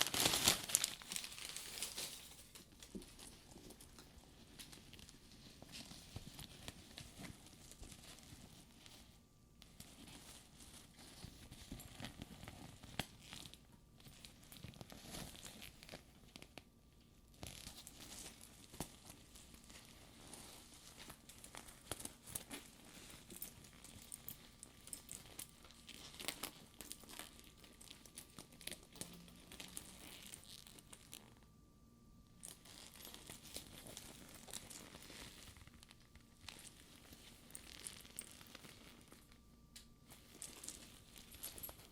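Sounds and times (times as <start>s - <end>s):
faux leather crinkling and creaking: 0.0s - 31.6s, 32.2s - 41.9s.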